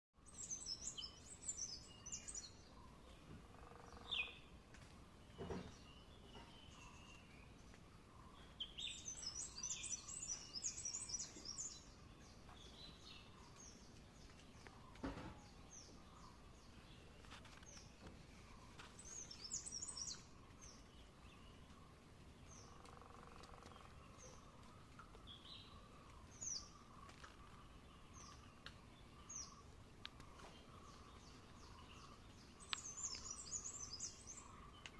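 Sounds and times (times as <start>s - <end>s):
faint background noise: 0.2s - 34.9s
small birds chirping: 0.2s - 34.9s.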